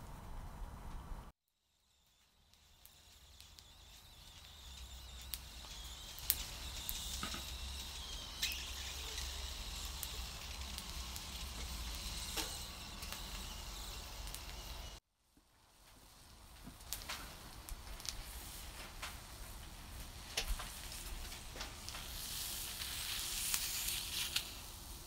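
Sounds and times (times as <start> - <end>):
shellfish sizzling on grill: 1.6 - 15.0, 15.6 - 25.0.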